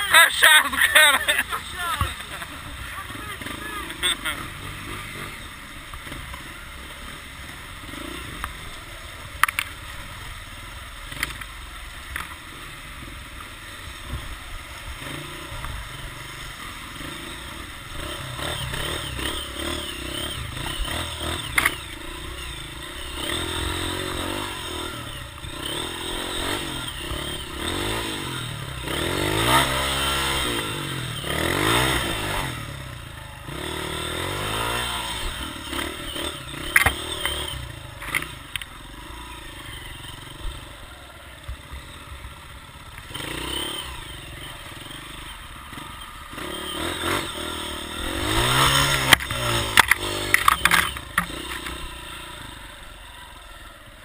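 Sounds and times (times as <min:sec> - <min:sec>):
engine running and revving: 0:00.0 - 0:54.0.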